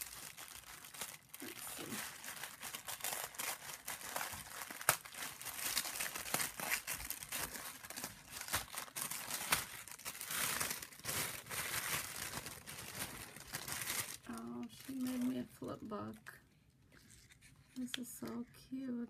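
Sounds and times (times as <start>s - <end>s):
wrapping paper crinkling and tearing: 0.0s - 16.3s, 16.9s - 18.4s.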